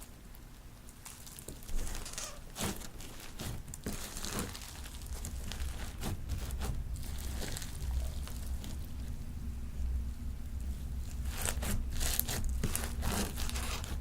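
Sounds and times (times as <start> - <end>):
slime crackling and popping: 0.0 - 9.1, 11.0 - 14.0
low steady hum: 0.0 - 14.0.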